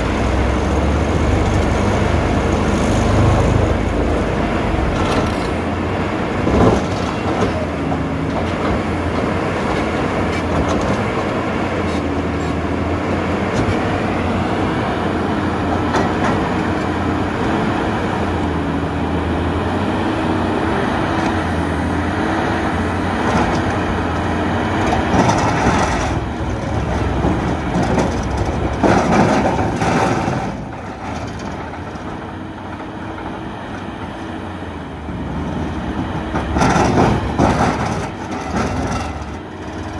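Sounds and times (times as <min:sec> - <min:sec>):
excavator engine under load: 0:00.0 - 0:39.9.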